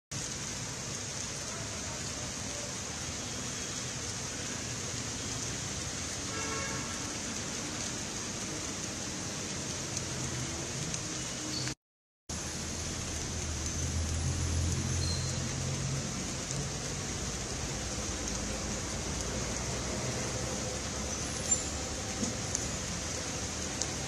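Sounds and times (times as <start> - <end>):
heavy rain hissing: 0.1 - 24.0
traffic on wet road: 0.2 - 24.0.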